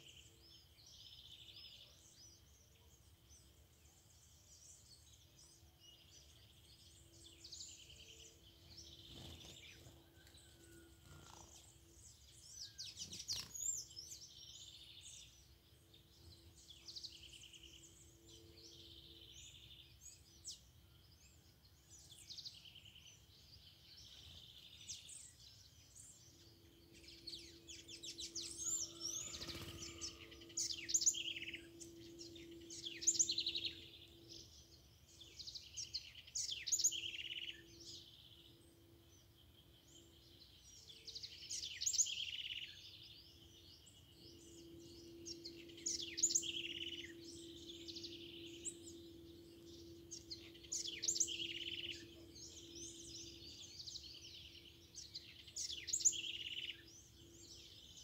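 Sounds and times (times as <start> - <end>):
faint low hum: 0.0 - 58.0
songbirds singing and calling: 0.0 - 58.0.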